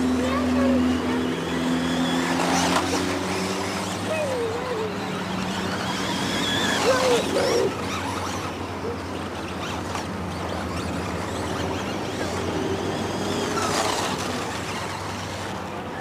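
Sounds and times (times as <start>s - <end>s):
small motors whining: 0.0s - 16.0s.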